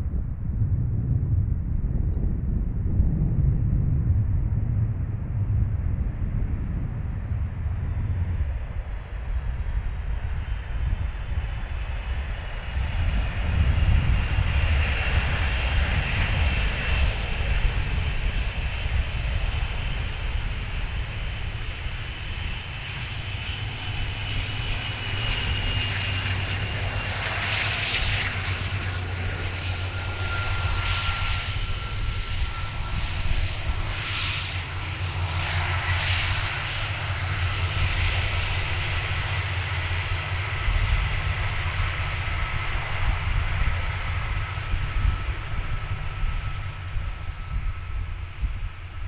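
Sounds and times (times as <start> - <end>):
jet engines rumbling and whining: 0.0 - 49.0.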